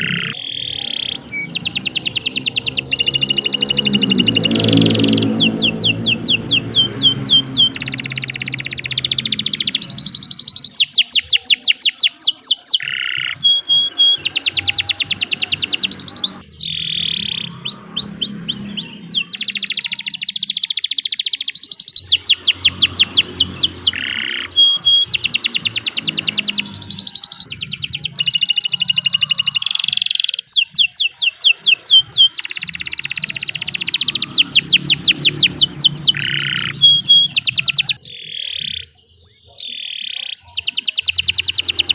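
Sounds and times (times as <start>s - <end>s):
canary singing trills and whistles: 0.0s - 41.9s.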